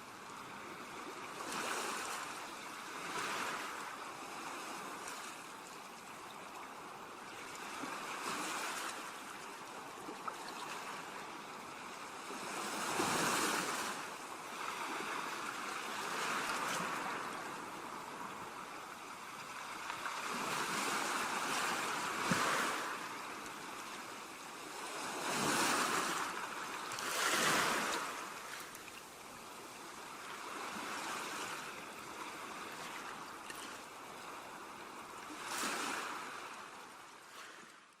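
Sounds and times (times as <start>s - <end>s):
light wind: 0.0s - 38.0s
ocean waves breaking on beach: 0.0s - 38.0s.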